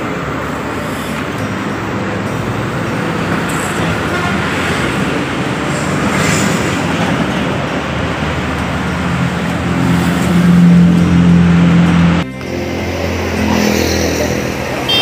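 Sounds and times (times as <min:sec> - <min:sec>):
road traffic rumble and hiss: 0:00.0 - 0:15.0.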